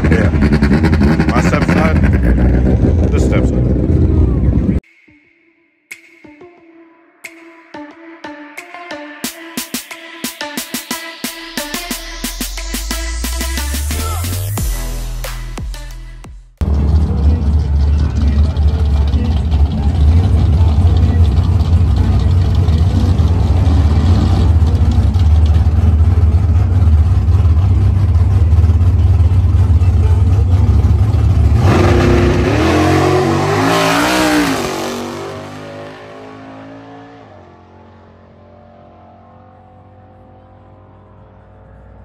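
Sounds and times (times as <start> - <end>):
car engine rumbling and revving: 0.0 - 4.8, 11.8 - 42.0.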